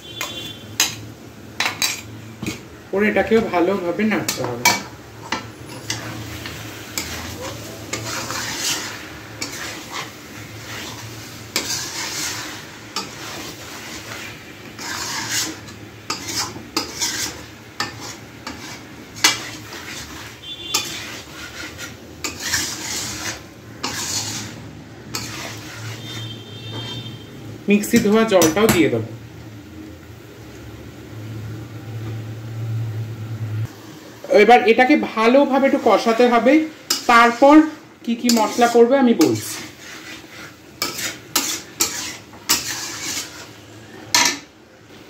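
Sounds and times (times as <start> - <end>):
metal spatula scraping pan: 0.0 - 1.0, 1.6 - 2.6, 3.2 - 28.9, 35.0 - 44.5
soft frying sizzle: 0.0 - 45.0.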